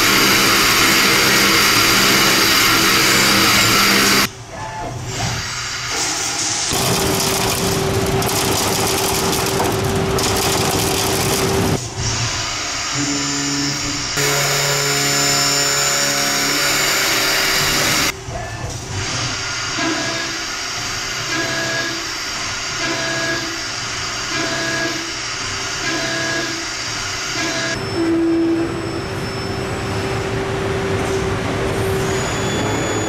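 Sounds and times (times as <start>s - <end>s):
machine whine: 0.0s - 33.0s.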